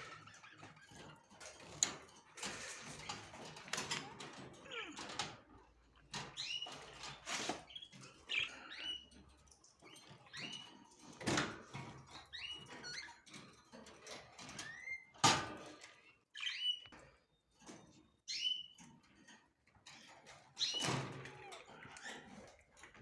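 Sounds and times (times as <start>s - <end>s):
cage birds chirping: 0.0s - 23.0s.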